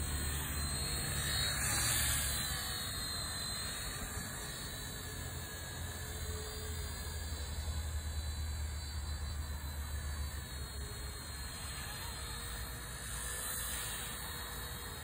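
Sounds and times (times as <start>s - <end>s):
rc helicopter motor whine: 0.0s - 15.0s.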